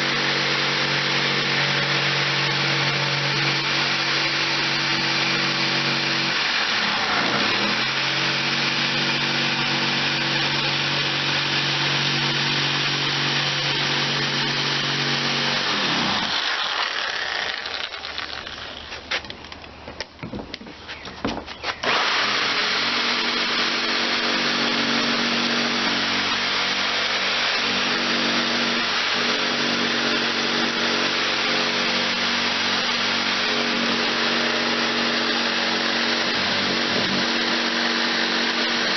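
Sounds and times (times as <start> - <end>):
electric power tool running: 0.0 - 19.0, 21.8 - 38.9.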